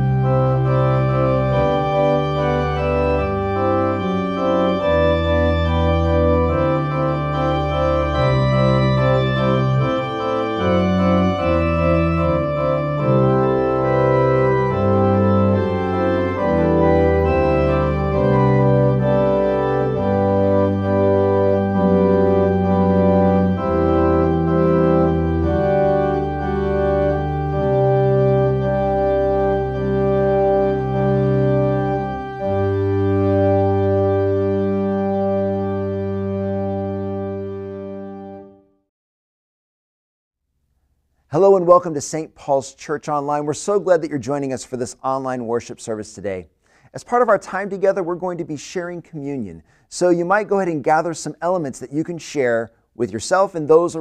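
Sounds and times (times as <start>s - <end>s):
organ playing slow chords: 0.0s - 38.8s, 43.1s - 54.0s.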